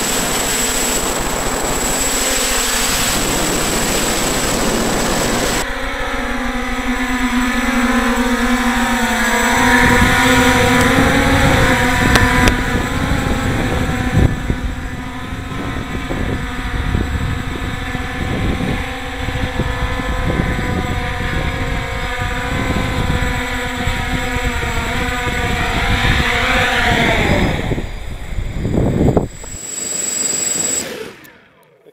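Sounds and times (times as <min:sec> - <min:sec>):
wind buffeting microphone: 0:00.0 - 0:05.7, 0:06.9 - 0:29.6
drone motors whining: 0:00.0 - 0:31.9.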